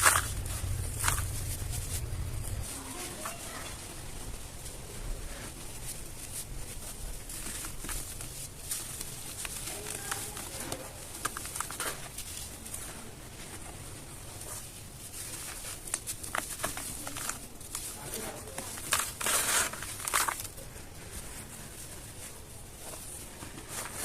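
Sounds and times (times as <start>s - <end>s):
dry dirt crumbling and crunching: 0.0s - 24.0s.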